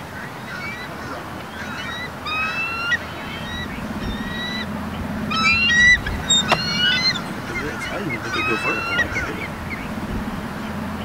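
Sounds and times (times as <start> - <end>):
eagles calling: 0.0 - 11.0.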